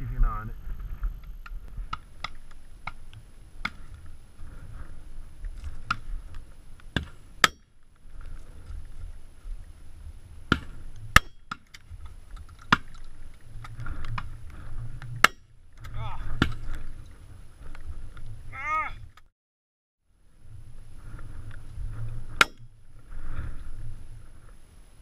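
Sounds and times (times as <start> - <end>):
wind rumbling on microphone: 0.0 - 19.2, 20.1 - 25.0.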